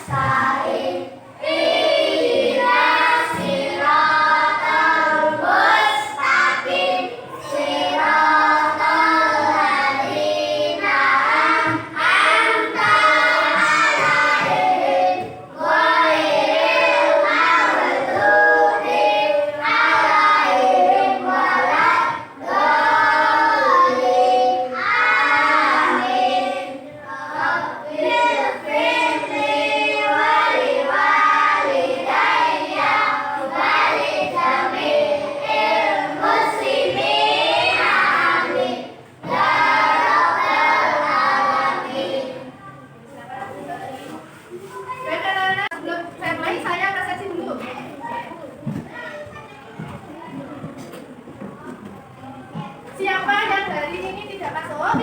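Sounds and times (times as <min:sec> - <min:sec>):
children praying aloud in unison: 0:00.0 - 0:45.8, 0:46.4 - 0:55.0.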